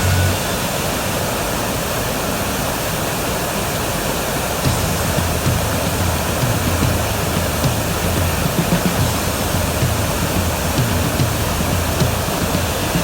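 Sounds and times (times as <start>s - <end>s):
rush of falling water: 0.0s - 13.0s.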